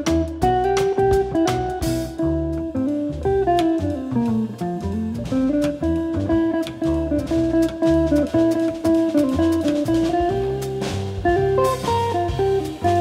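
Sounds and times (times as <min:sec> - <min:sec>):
drum kit with cymbal strokes: 0:00.0 - 0:13.0
electric guitar melody: 0:00.0 - 0:13.0
walking double bass: 0:00.0 - 0:13.0.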